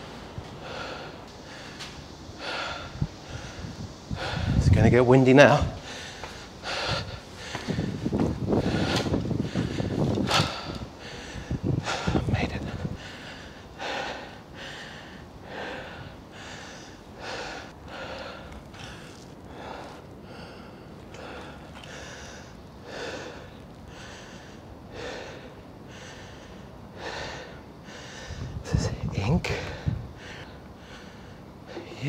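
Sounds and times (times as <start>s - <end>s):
man breathing hard: 0.0s - 4.7s, 5.6s - 32.0s.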